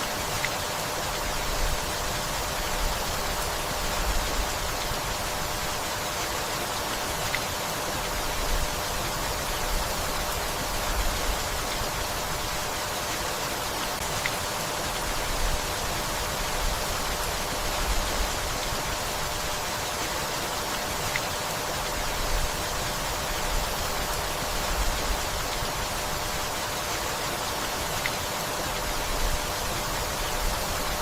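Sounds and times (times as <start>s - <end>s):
rain falling on leaves: 0.0s - 31.0s.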